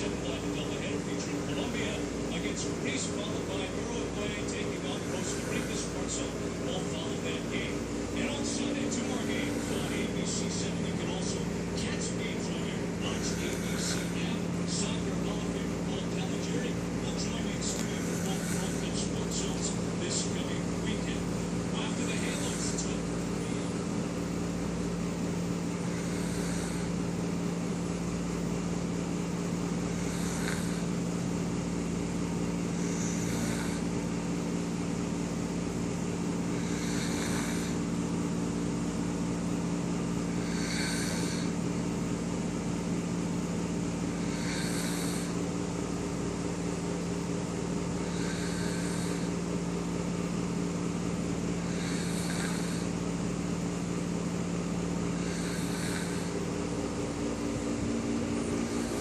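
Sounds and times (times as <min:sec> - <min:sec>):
man snoring: 0:01.2 - 0:28.4, 0:29.2 - 0:38.4, 0:40.1 - 0:41.8, 0:44.0 - 0:45.8, 0:47.8 - 0:49.6, 0:50.2 - 0:53.1, 0:54.4 - 0:59.0.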